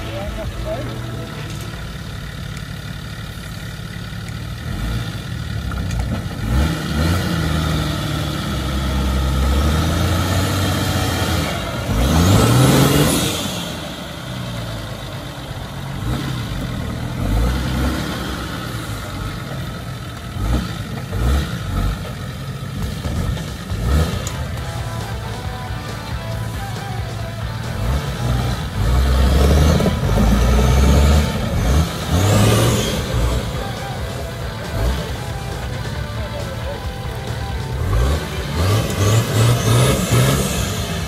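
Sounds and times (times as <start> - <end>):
engine revving: 0.0 - 41.0.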